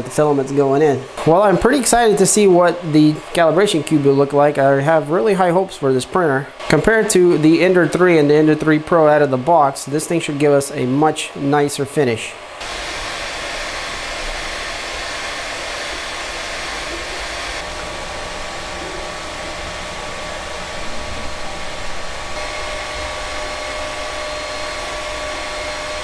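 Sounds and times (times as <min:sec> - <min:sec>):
cooling fans hissing: 0:00.0 - 0:26.0
faint whine: 0:00.0 - 0:26.0.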